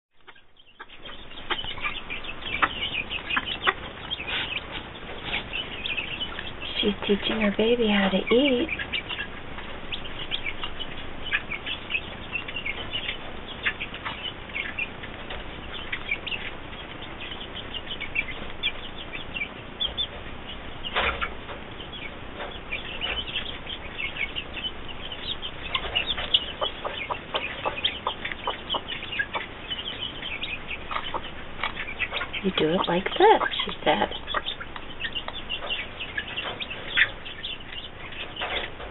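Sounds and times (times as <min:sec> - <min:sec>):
chick peeping: 0:00.2 - 0:38.9
hen clucking: 0:00.2 - 0:38.9.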